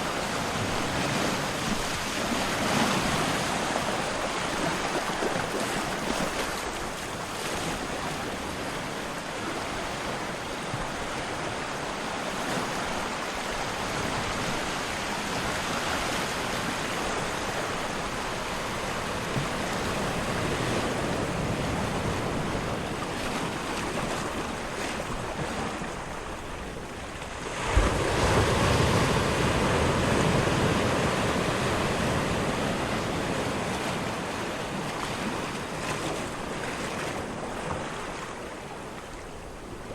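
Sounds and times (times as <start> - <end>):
ocean surf washing: 0.0 - 39.9.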